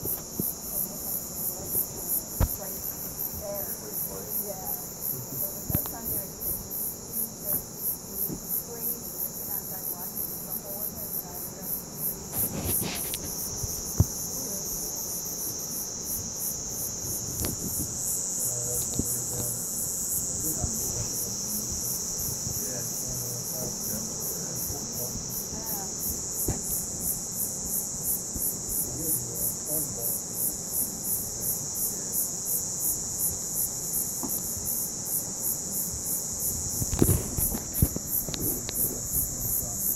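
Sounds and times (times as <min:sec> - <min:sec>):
crickets chirping: 0:00.0 - 0:39.9
steady high insect buzz: 0:00.0 - 0:39.9.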